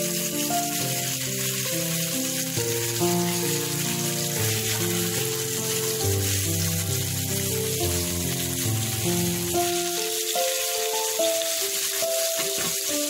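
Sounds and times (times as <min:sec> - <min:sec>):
background music with held notes: 0:00.0 - 0:13.0
meat sizzling on grill pan: 0:00.0 - 0:13.0.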